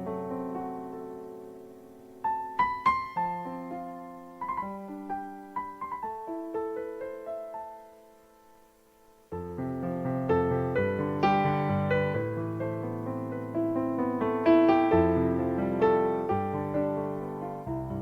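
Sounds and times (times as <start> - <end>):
slow soft piano music: 0.0 - 18.0.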